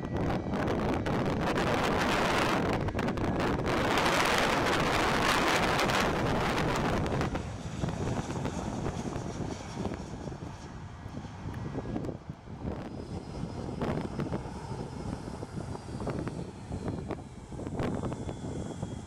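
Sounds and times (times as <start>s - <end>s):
jet engines roaring overhead: 0.0s - 19.0s
wind buffeting microphone: 0.0s - 19.0s.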